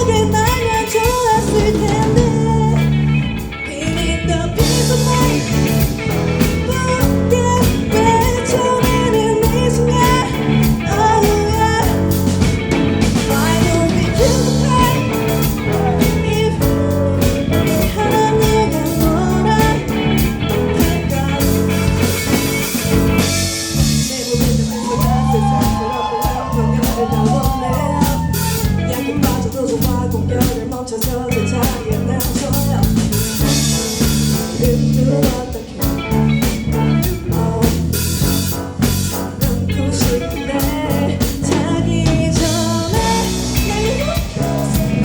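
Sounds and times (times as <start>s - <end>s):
bass guitar: 0.0s - 45.0s
drum kit beat: 0.0s - 45.0s
electric guitar: 0.0s - 45.0s
person singing: 0.0s - 45.0s.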